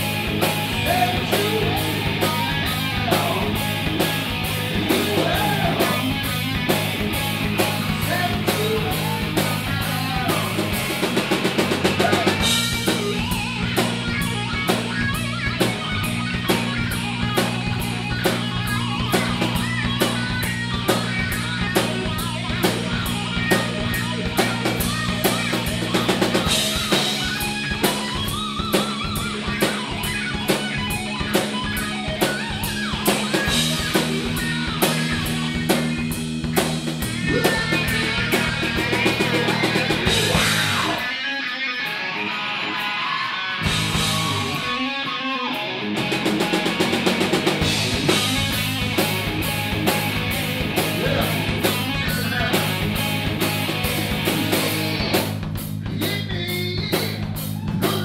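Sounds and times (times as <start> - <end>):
drum kit beat: 0.0 - 41.2, 43.6 - 44.9, 45.7 - 58.0
electric guitar chords: 0.0 - 58.0.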